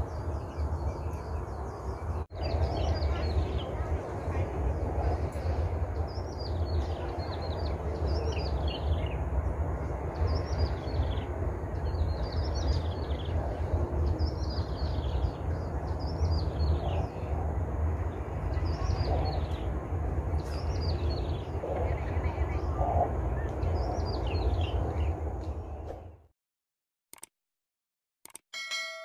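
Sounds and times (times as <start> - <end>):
steady low rumble: 0.0 - 26.3.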